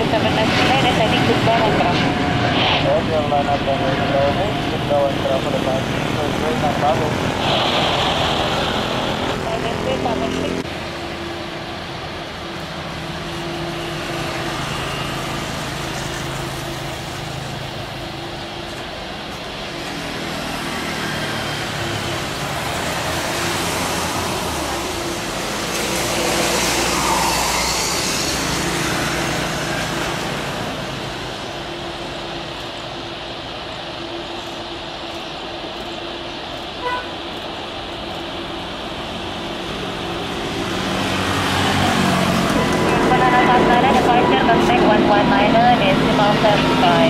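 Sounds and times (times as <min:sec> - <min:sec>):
jet engines roaring at takeoff: 0:00.0 - 0:47.0
road traffic noise: 0:00.0 - 0:47.0.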